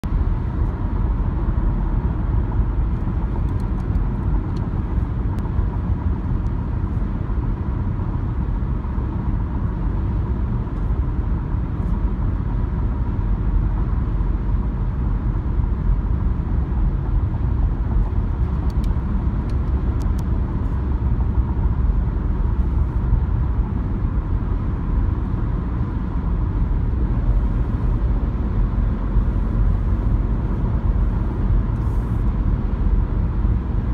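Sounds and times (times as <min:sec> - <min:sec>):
car cabin road noise: 0:00.0 - 0:33.9.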